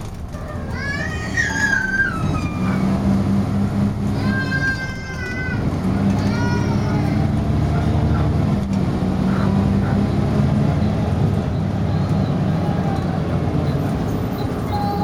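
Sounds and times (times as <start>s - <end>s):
bus diesel engine droning: 0.0s - 15.0s
road noise: 0.0s - 15.0s.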